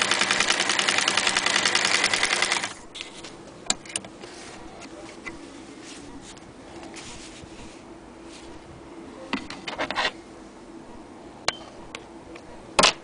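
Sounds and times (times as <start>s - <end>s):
faint steady hum: 2.1s - 13.0s.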